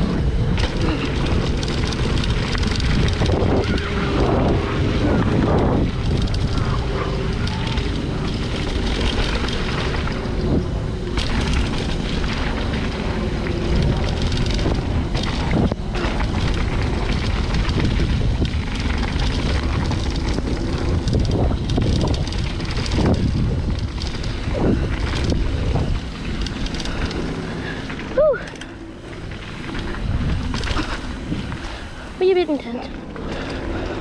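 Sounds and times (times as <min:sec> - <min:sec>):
wind buffeting microphone: 0:00.0 - 0:34.0
knocks and rattles: 0:00.5 - 0:28.2.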